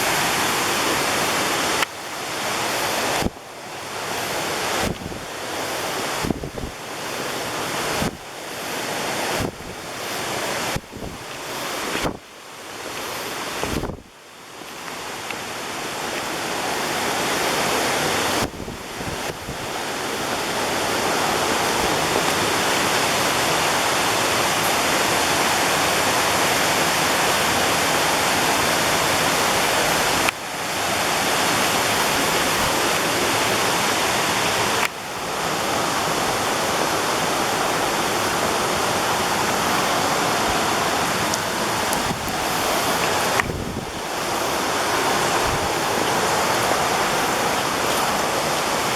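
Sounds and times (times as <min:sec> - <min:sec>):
waterfall roaring: 0:00.0 - 0:48.9.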